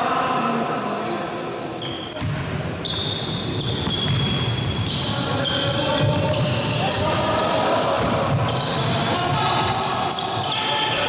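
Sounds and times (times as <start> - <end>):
sneakers squeaking: 0.6 - 11.0.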